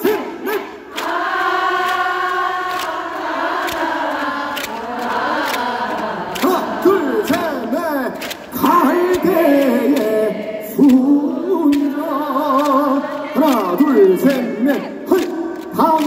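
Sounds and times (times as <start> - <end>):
crowd singing together: 0.0 - 16.0.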